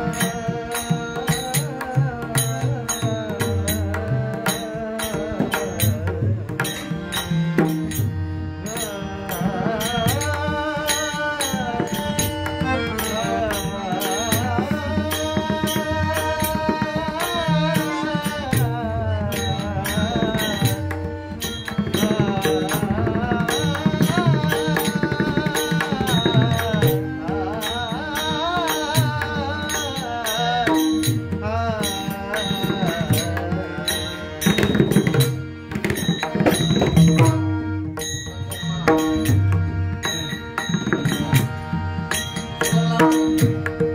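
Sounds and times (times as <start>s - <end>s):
person singing devotional song: 0.0s - 43.9s.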